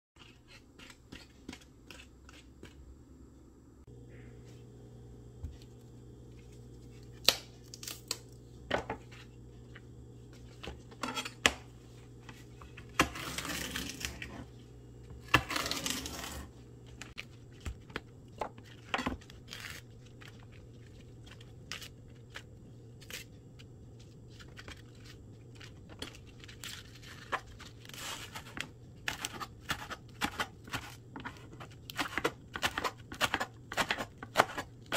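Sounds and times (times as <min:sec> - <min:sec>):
low steady hum: 0:00.2 - 0:34.9.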